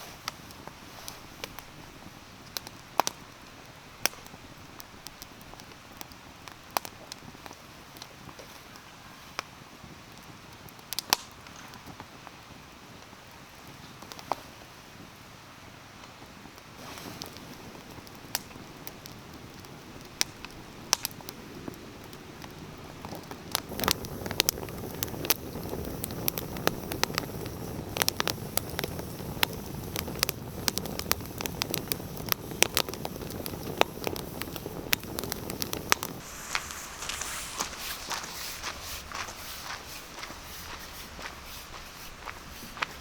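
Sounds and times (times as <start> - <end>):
low hiss of fire: 0.0 - 43.0
campfire crackling and popping: 0.1 - 14.4, 16.0 - 43.0.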